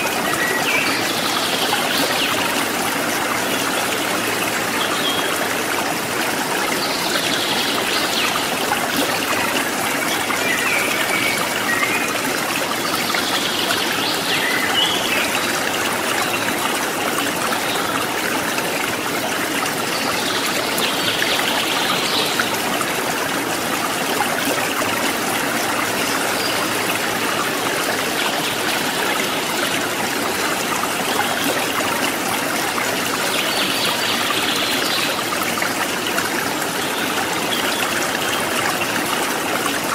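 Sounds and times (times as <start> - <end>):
water rushing and trickling: 0.0 - 39.9.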